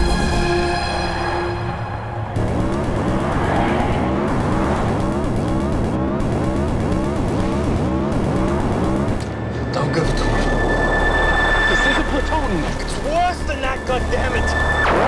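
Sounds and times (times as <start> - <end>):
music: 0.0 - 15.0
car engines running hard: 0.8 - 15.0.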